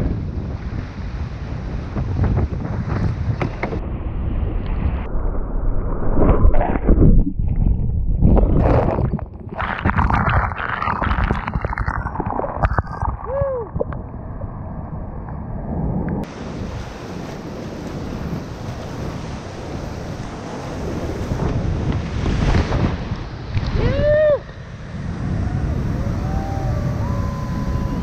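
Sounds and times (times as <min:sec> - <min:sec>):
wind buffeting microphone: 0:00.0 - 0:05.1, 0:06.0 - 0:28.0.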